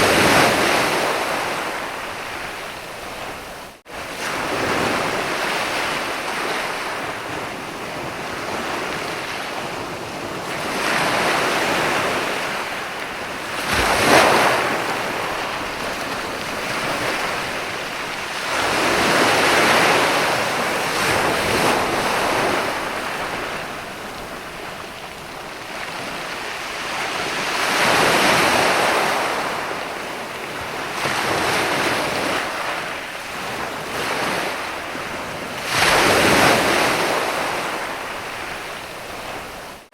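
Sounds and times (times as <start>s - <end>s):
wind buffeting microphone: 0.0s - 39.8s
ocean waves breaking on sand: 0.0s - 39.9s.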